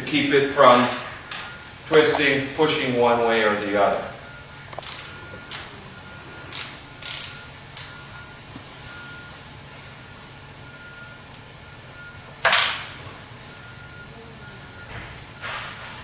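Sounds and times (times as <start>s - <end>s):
low steady hum: 0.0s - 15.8s.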